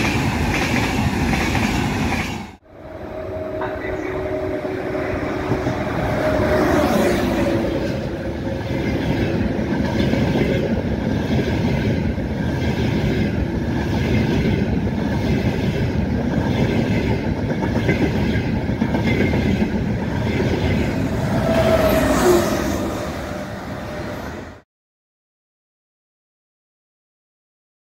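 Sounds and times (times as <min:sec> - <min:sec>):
train wheels rumbling on rail: 0:00.0 - 0:24.6.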